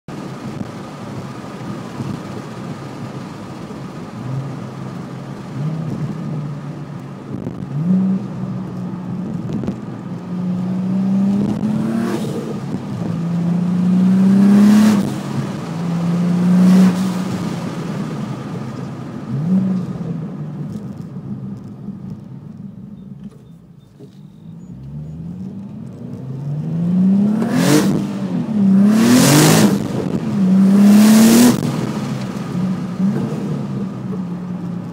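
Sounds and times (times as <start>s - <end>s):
car engine accelerating hard: 0.2s - 21.0s, 24.6s - 34.9s.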